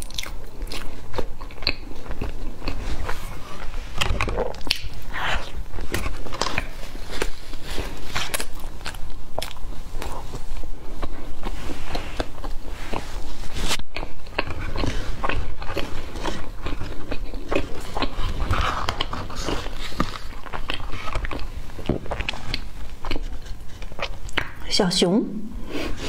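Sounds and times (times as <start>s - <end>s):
close chewing: 0.0s - 24.6s.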